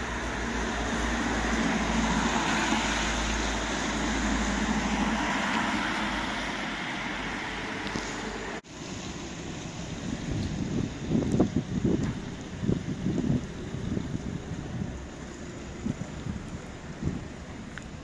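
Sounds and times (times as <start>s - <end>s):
low engine rumble: 0.0s - 18.0s
tyres hissing on wet asphalt: 0.0s - 18.0s.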